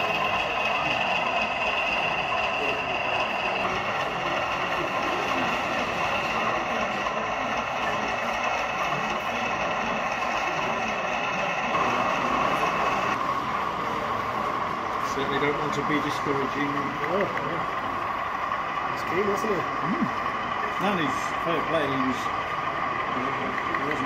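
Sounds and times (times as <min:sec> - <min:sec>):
model locomotive diesel engine hum: 0:00.0 - 0:24.0.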